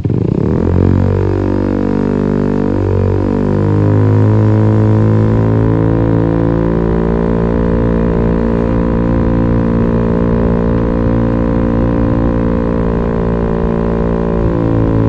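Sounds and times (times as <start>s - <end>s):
scooter engine droning: 0.0s - 15.0s.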